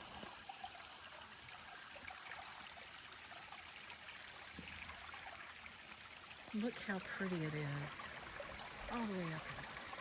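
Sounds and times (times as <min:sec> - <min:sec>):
stream trickling over rocks: 0:00.0 - 0:10.0.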